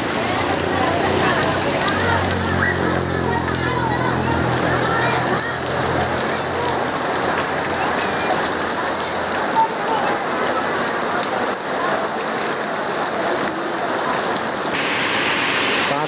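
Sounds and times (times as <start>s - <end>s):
heavy rain splashing: 0.0s - 16.0s.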